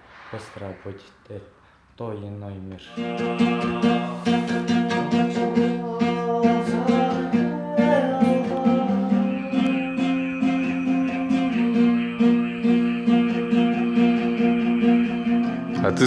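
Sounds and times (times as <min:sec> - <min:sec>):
acoustic guitar strumming: 0:02.9 - 0:16.0
throat singing: 0:02.9 - 0:16.0.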